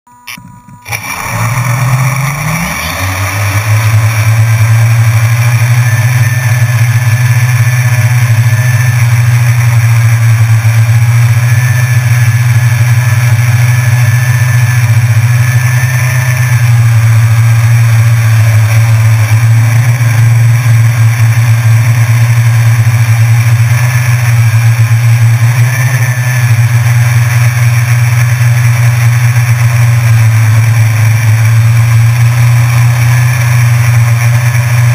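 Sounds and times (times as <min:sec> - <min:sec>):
drone propellers buzzing: 0:00.1 - 0:34.9.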